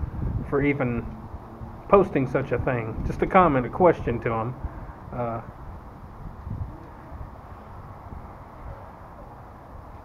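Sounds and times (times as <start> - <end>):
low outdoor ambient rumble: 0.0 - 10.0.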